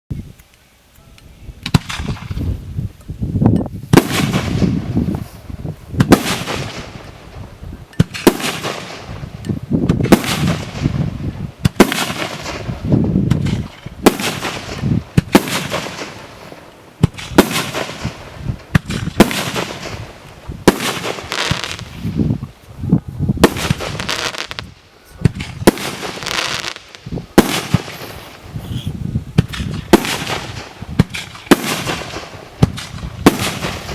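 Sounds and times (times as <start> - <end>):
fireworks bangs: 1.6 - 2.6, 3.9 - 22.4, 23.3 - 33.9.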